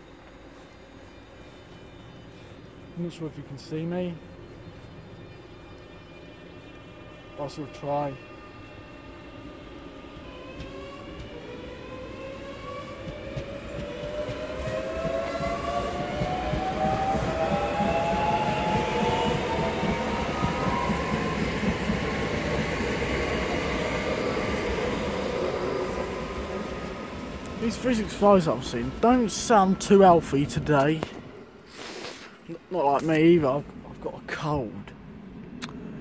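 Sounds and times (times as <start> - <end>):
wheels rumbling on rail: 0.0 - 31.5.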